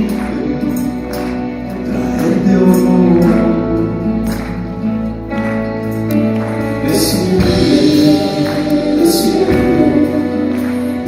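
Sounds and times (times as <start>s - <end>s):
person singing: 0.0s - 5.6s, 6.2s - 11.0s
band playing sustained chords: 0.0s - 11.0s.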